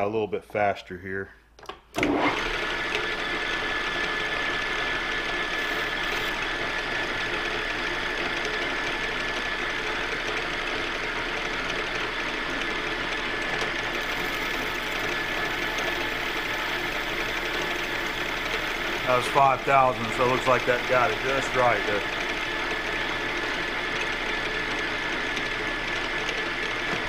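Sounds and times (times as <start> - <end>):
metal lathe running: 2.1 - 27.0.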